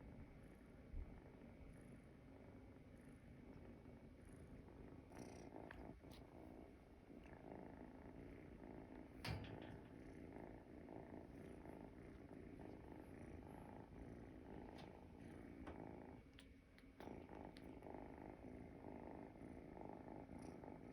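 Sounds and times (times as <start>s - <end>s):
kitten snoring: 1.6s - 20.9s.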